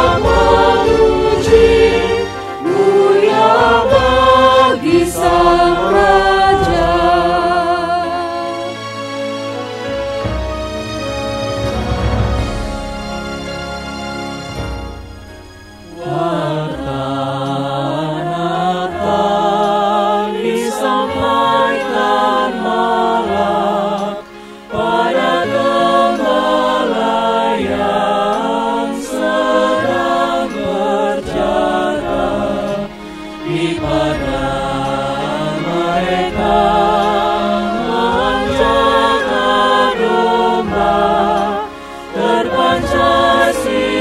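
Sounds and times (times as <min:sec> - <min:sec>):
choir singing with accompaniment: 0:00.0 - 0:44.0
music intro: 0:00.0 - 0:44.0.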